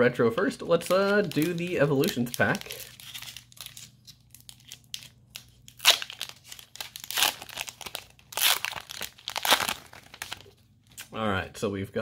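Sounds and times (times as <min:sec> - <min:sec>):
foil wrapper tearing and crinkling: 0:00.8 - 0:10.6.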